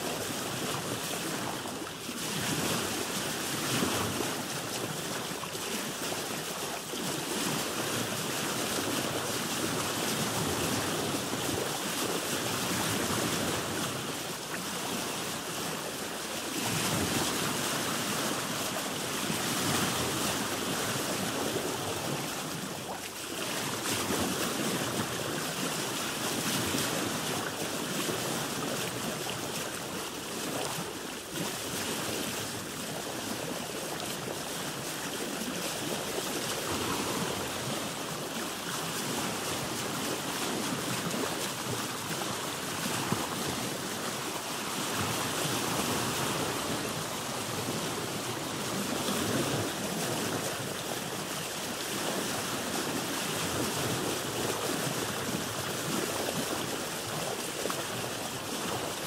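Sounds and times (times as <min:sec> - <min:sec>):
wind: 0:00.0 - 0:59.0
water splashing against boat hull: 0:00.1 - 0:59.0.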